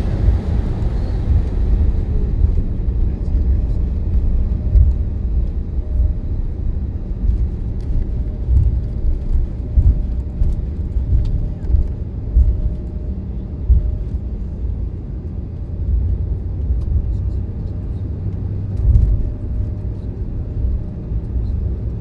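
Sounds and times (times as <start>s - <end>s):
jet cabin rumble: 0.0s - 22.0s.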